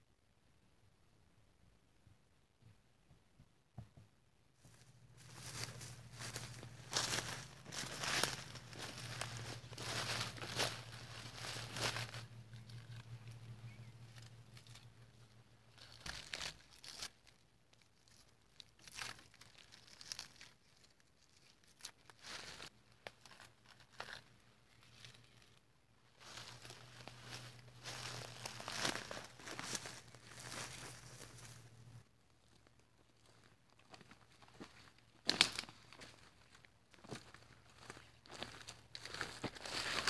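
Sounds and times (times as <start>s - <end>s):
faint low hum: 0.0s - 21.7s, 22.3s - 40.0s
rustling and crinkling: 4.6s - 40.0s.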